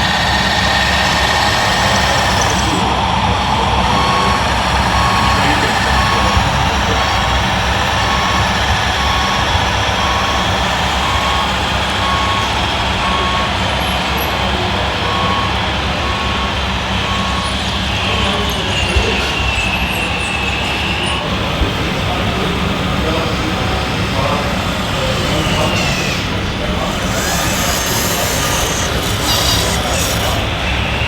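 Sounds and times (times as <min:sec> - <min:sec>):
diesel engine sound effect: 0:00.0 - 0:31.0
reversing beeper beeping: 0:00.2 - 0:31.0.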